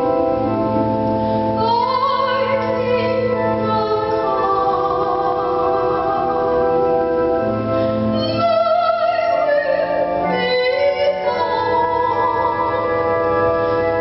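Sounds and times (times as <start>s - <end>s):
instrumental church music: 0.0s - 14.0s
person singing with vibrato: 0.0s - 14.0s.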